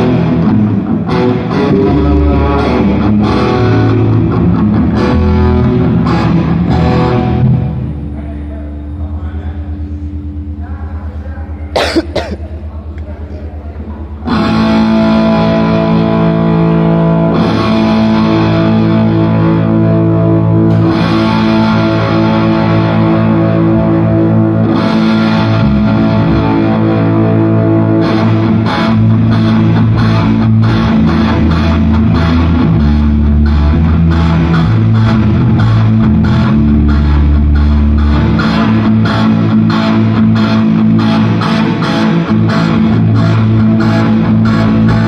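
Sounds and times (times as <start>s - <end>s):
distorted electric guitar rock: 0.0s - 11.1s, 14.0s - 45.0s.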